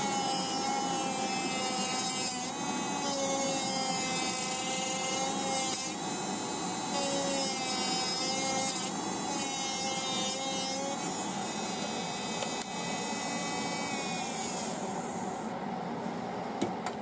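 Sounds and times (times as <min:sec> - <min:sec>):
bit grinding nail: 0:00.0 - 0:15.3
electric nail file whine: 0:00.0 - 0:15.7.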